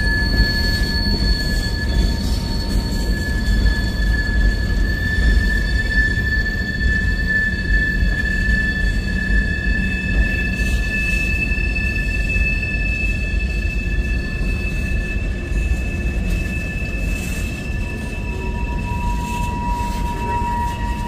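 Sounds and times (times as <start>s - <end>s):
train rumbling past: 0.0s - 21.0s
wheels squealing on rails: 0.0s - 21.0s.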